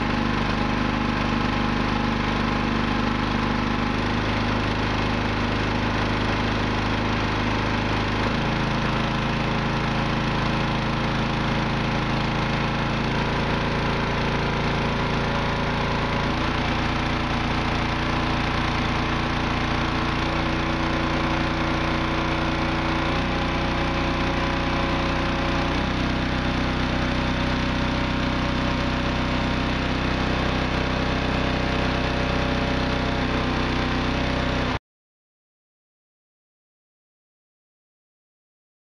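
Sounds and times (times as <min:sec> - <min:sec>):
gasoline engine running: 0:00.0 - 0:34.8.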